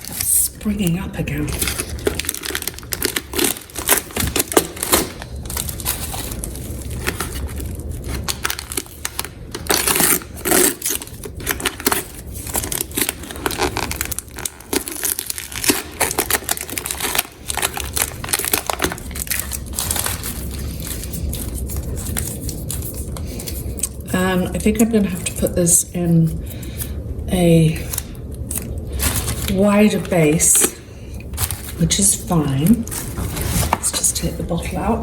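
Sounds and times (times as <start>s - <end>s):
contact paper crinkling: 0.0s - 24.0s, 27.8s - 34.8s.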